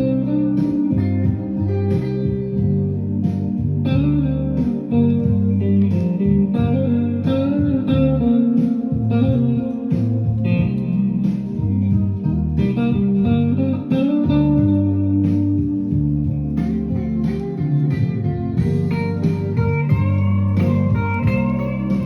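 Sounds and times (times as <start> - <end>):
blues slide guitar music: 0.0 - 22.0.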